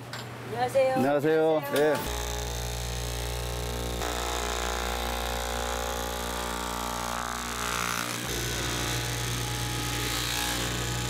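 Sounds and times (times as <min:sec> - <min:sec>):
cloth cutting machine motor hum: 0:02.0 - 0:11.0.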